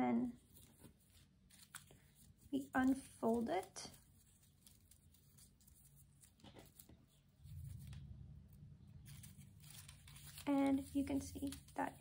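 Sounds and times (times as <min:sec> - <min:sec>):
faint low hum: 0:00.0 - 0:12.0
paper rustling: 0:00.2 - 0:12.0.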